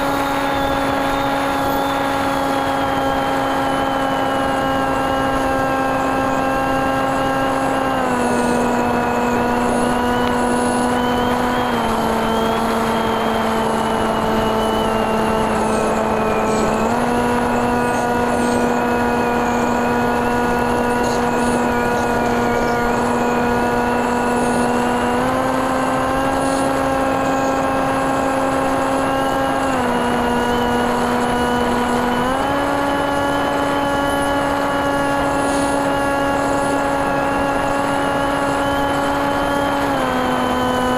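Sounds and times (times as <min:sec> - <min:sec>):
electric motor buzzing whine: 0:00.0 - 0:40.9.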